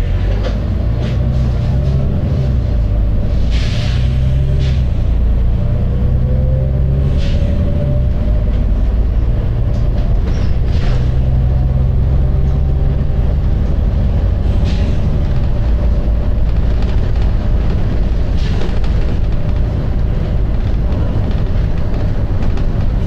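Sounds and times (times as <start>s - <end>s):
bus diesel engine rumble: 0.0s - 23.0s.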